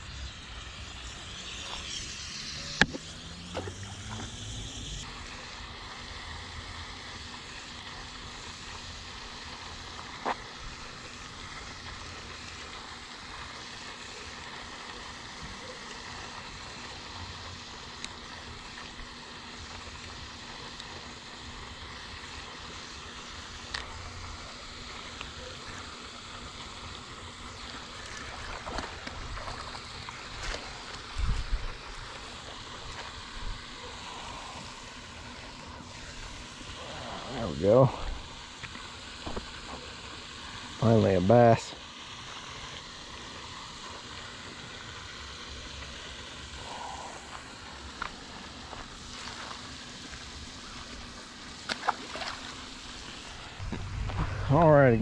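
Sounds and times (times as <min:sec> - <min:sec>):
fountain splashing: 0:00.0 - 0:55.0.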